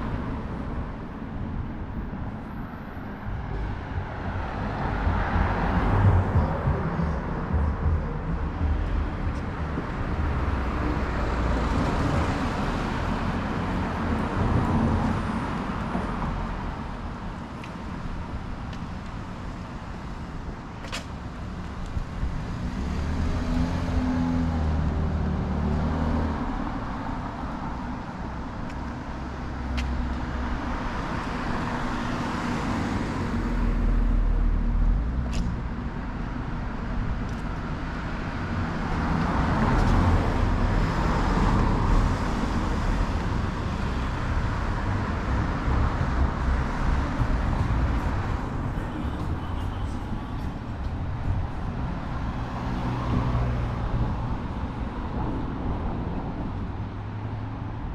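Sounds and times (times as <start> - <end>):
cars passing: 0.0 - 57.9.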